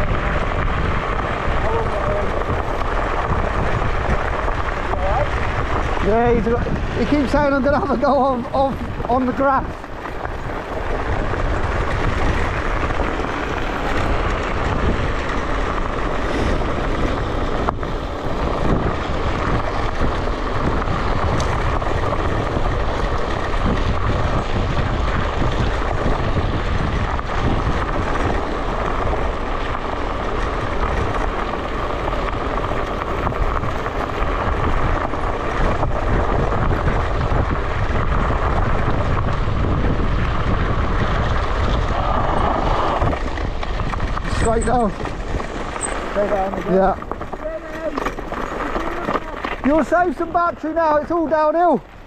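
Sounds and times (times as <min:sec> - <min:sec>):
tyres rumbling over ground: 0:00.0 - 0:52.0
wind rushing over microphone: 0:00.0 - 0:52.0.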